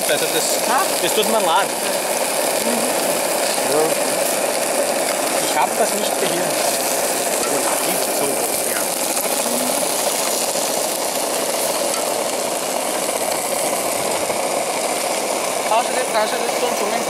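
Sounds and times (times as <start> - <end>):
food sizzling in a pan: 0.0 - 17.0
gas burner rushing: 0.0 - 17.0.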